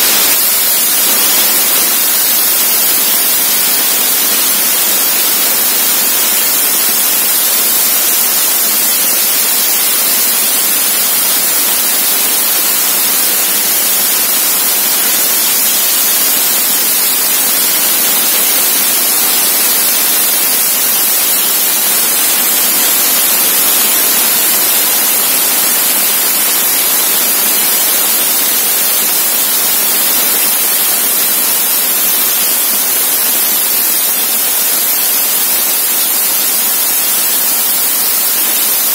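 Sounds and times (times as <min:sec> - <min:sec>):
laser cutter gas jet hissing: 0:00.0 - 0:38.9.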